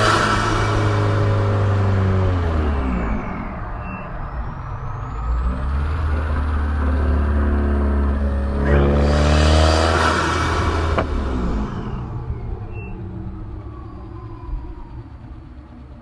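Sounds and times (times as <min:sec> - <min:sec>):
car engine pulling under throttle: 0:00.0 - 0:16.0.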